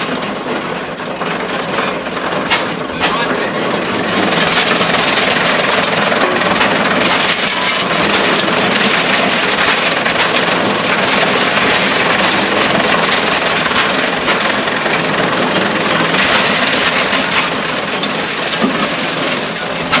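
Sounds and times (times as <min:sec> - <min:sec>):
gas engine running: 0:00.0 - 0:20.0
corn stalks crackling being cut: 0:04.0 - 0:20.0.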